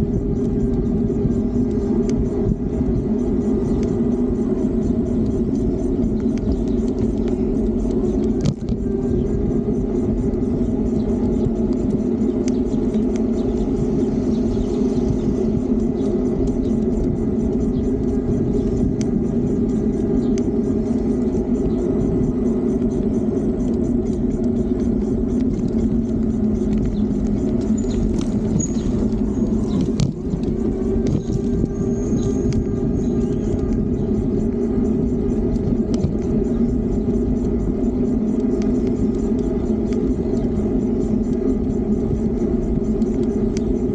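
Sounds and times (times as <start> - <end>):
tyre and road noise: 0.0 - 43.9
wind on microphone: 0.0 - 43.9.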